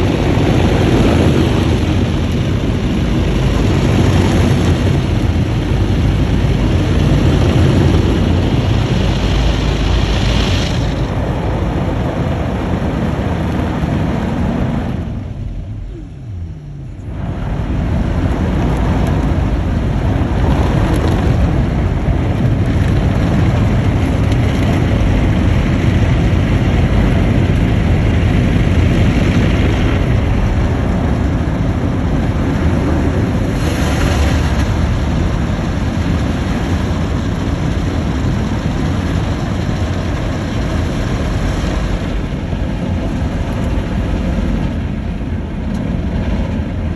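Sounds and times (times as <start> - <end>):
car wash spray and blowers roaring: 0.0 - 46.9.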